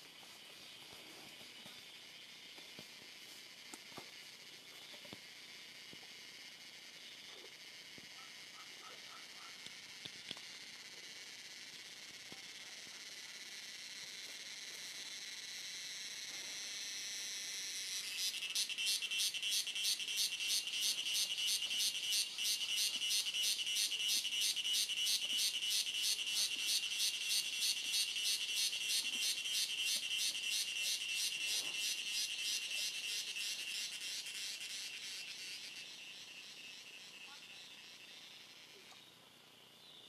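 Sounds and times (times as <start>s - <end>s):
high insect drone: 0.0s - 40.0s
loud pulsing insect buzz: 1.4s - 38.9s.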